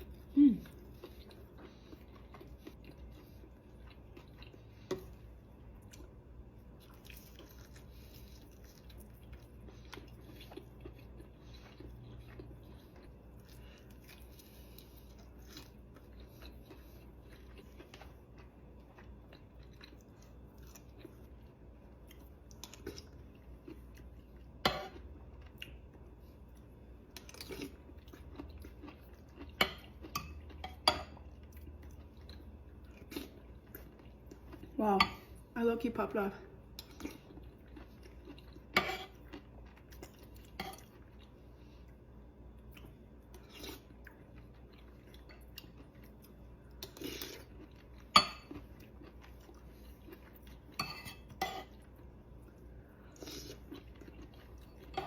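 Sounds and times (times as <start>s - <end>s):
person chewing food: 0.0s - 35.5s, 36.6s - 55.0s.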